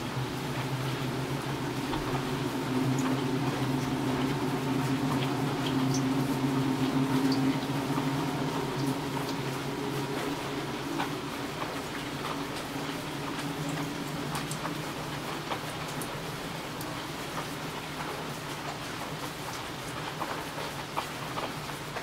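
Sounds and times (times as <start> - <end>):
low steady hum: 0.0 - 20.6
rain falling: 0.0 - 22.0.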